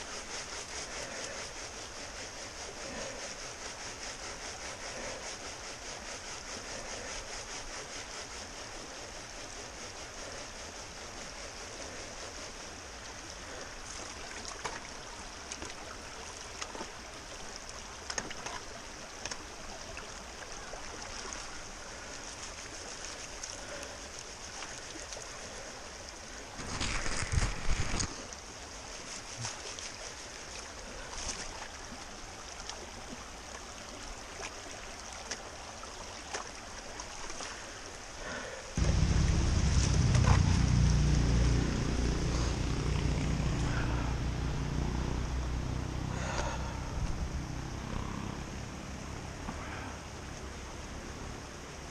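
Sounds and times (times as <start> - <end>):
creek running over rocks: 0.0 - 51.9.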